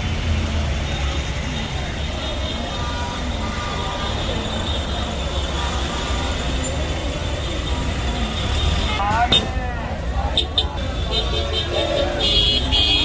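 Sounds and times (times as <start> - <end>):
distant murmur of voices: 0.0 - 13.0
vehicle engines rumbling: 0.0 - 13.0.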